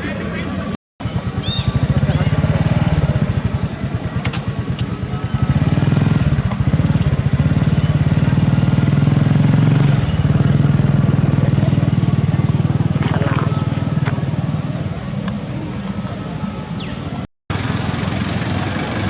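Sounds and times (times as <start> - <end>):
small engine running: 1.0 - 19.0.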